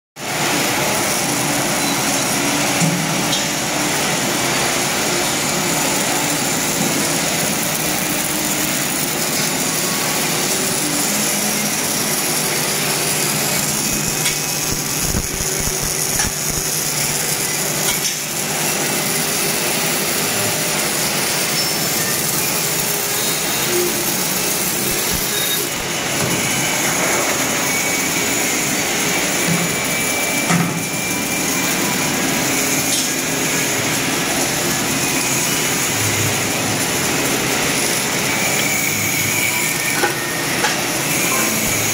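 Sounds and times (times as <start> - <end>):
arc welding hiss: 0.2 - 41.9.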